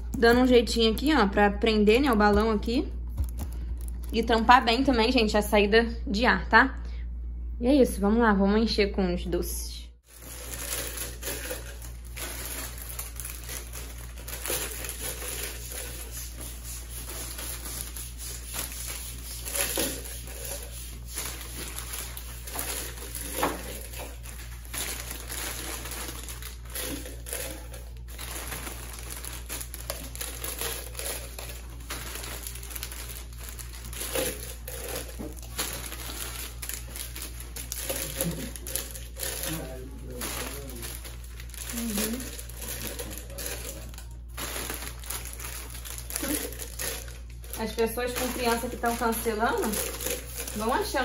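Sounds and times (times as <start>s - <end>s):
steady low hum: 0.0s - 51.0s
wrappers crinkling: 3.0s - 4.3s, 10.0s - 51.0s.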